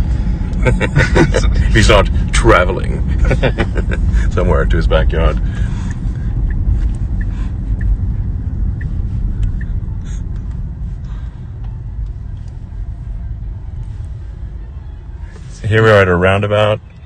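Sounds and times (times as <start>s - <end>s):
road and tyre rumble in car: 0.0s - 17.0s.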